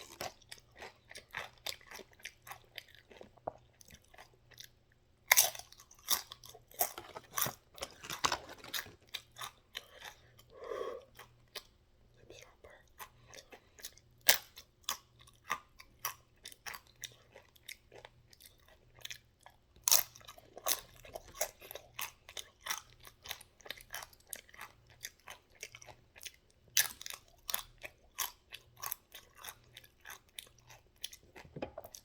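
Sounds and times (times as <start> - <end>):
person chewing crunchy food: 0.0 - 32.0.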